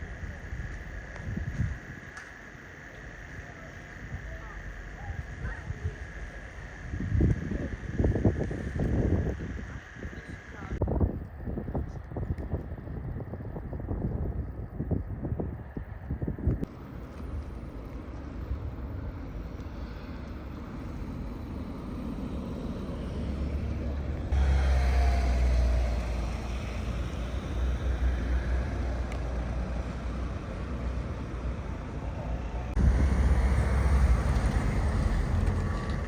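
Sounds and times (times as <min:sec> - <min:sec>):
low street rumble: 0:00.0 - 0:36.0.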